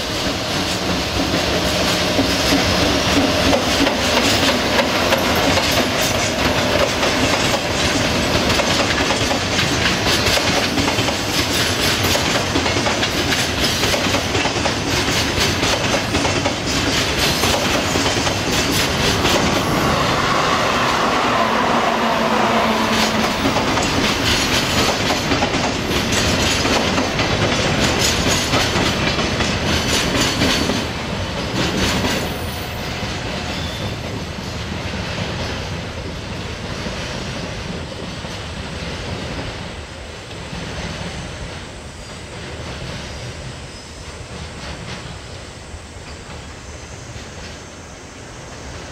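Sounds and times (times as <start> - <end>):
train wheels clacking over rail joints: 0.0 - 47.6
freight train rumble: 0.0 - 48.9.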